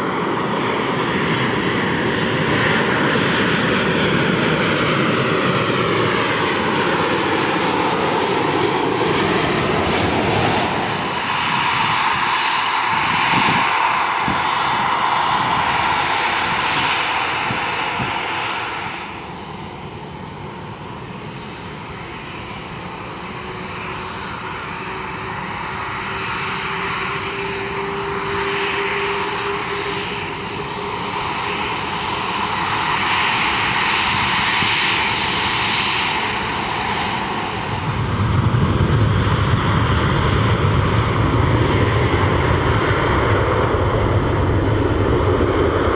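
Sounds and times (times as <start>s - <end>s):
aircraft engines roaring: 0.0s - 45.9s.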